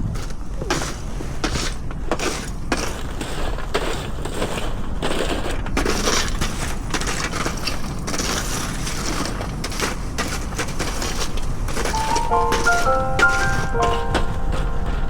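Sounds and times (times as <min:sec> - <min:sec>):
crunching and crackling clicks: 0:00.1 - 0:15.0.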